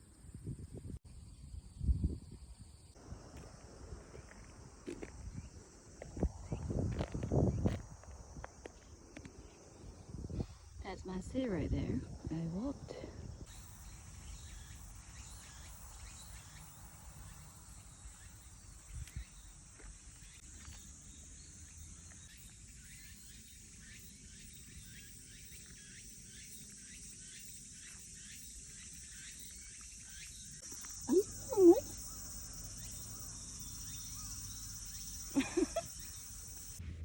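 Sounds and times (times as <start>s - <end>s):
insects chirping: 0.0s - 36.8s.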